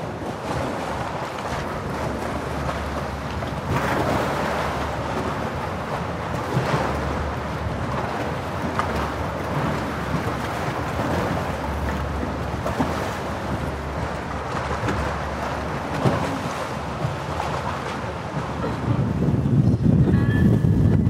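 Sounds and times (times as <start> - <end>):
boat motor running: 0.0 - 21.0
water splashing against hull: 0.0 - 21.0
wind buffeting microphone: 0.0 - 21.0.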